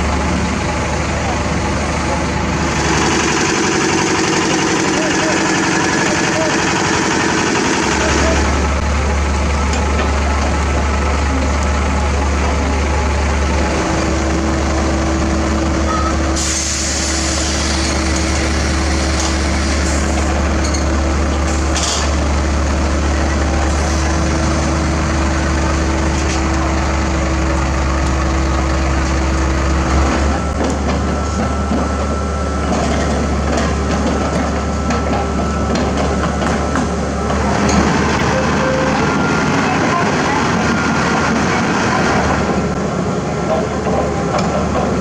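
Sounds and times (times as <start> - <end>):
high machine whine: 0.0 - 42.8
diesel machinery running: 0.0 - 45.0.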